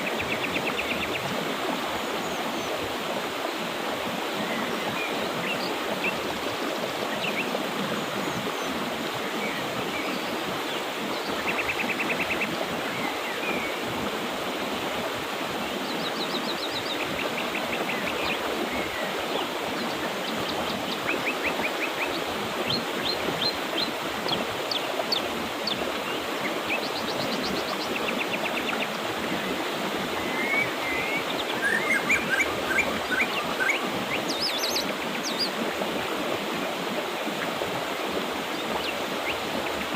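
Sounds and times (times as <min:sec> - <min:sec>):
songbirds trilling and chirping: 0:00.0 - 0:14.2, 0:15.5 - 0:36.7
river flowing: 0:00.0 - 0:39.9.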